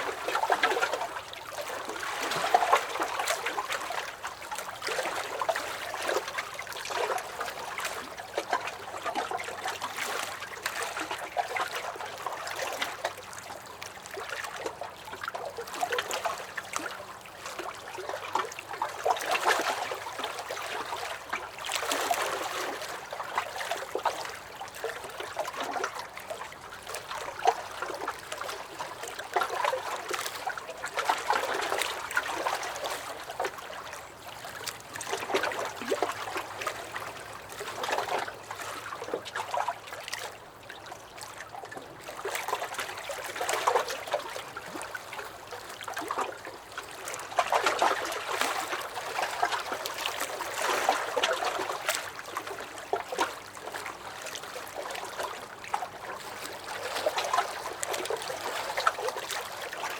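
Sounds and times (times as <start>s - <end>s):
waves lapping against dock: 0.0s - 59.9s.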